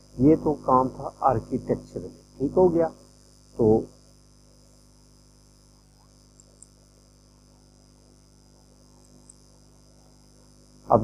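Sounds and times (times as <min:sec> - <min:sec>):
mains hum and hiss: 0:00.0 - 0:11.0.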